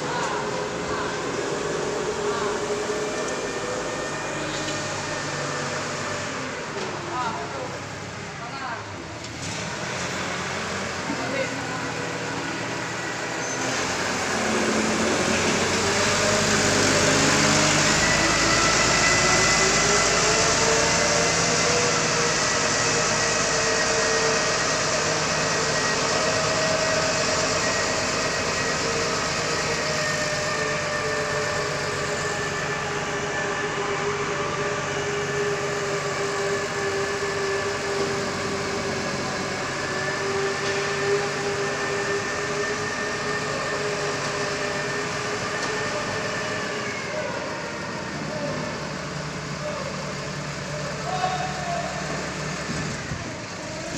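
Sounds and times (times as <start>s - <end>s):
diesel forklift engine running: 0.0s - 53.9s.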